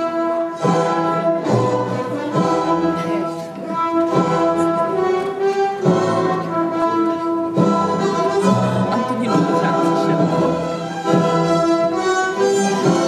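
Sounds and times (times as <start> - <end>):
orchestral music with strings and brass: 0.0 - 13.0.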